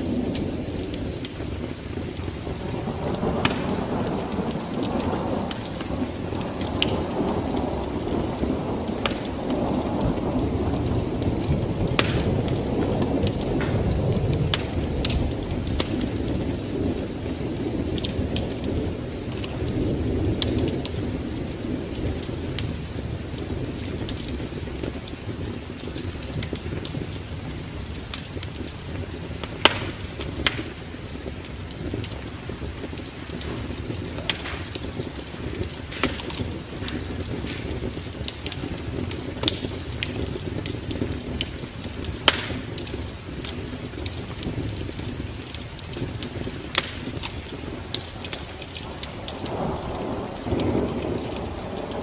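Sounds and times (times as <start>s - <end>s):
fire pops and snaps: 0.0s - 52.0s
low fire rumble: 0.0s - 52.0s.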